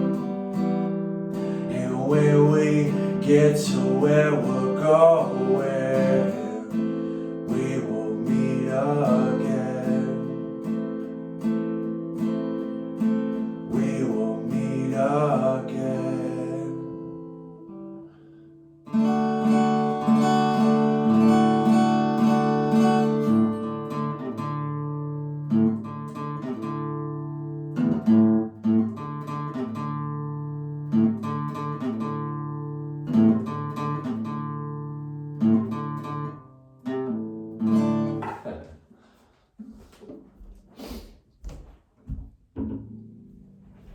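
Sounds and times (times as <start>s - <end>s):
acoustic guitar strumming: 0.0s - 38.7s, 41.6s - 43.9s.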